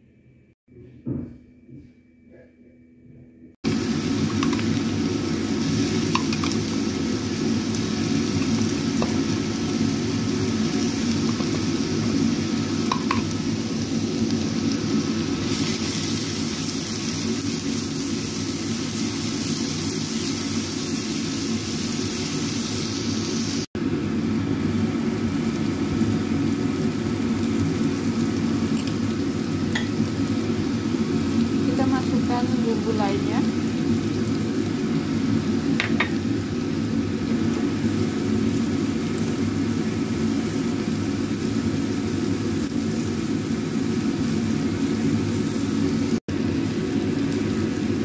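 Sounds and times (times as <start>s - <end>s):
paste sizzling in oil: 3.7s - 23.7s, 24.7s - 48.0s.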